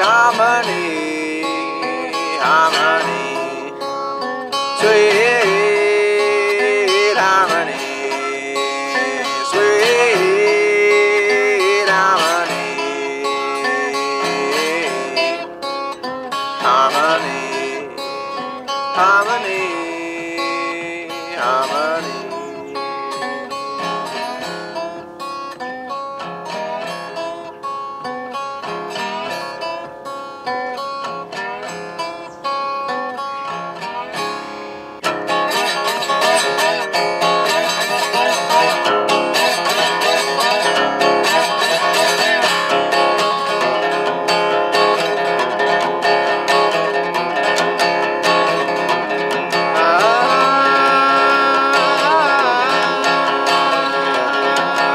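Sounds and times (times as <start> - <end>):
resonator guitar playing: 0.0 - 54.9.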